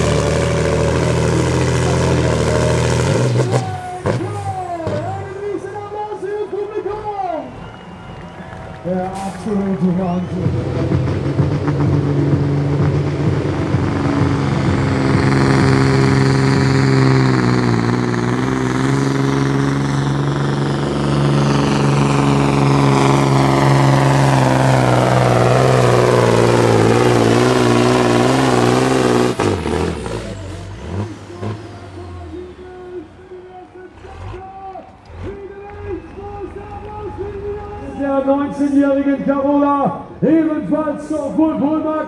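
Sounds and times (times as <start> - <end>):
diesel truck engine under load: 0.0 - 42.0.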